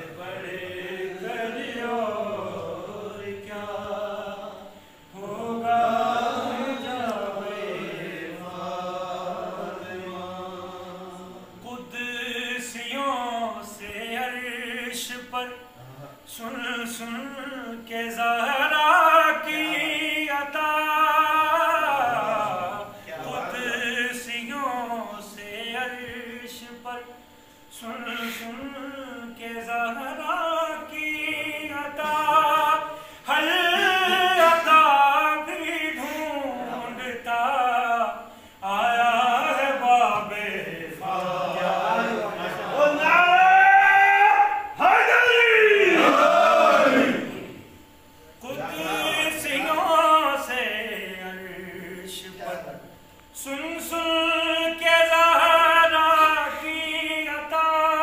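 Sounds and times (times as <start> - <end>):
man chanting: 0.0 - 46.2, 48.3 - 58.0.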